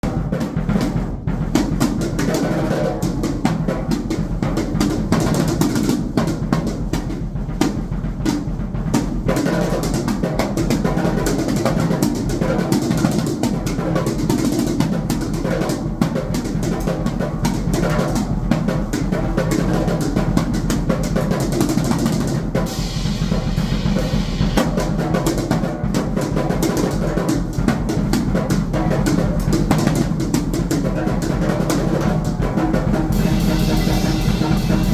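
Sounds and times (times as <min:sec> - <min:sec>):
drum kit playing: 0:00.0 - 0:34.9.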